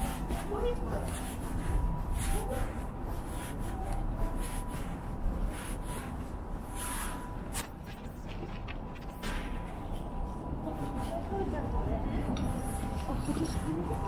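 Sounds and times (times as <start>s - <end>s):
soft scuffs and rustles: 0.0s - 14.0s
steady low rumble: 0.0s - 14.0s.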